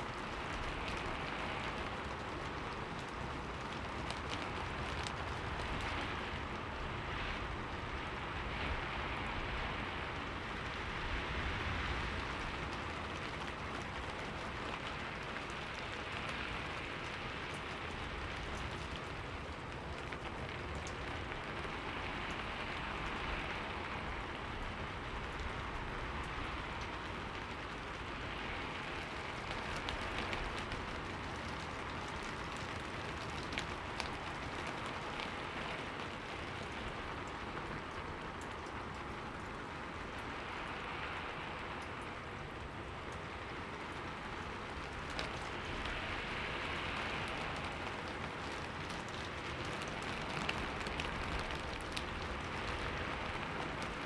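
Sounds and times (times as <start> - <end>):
rain falling on a window: 0.0 - 54.0.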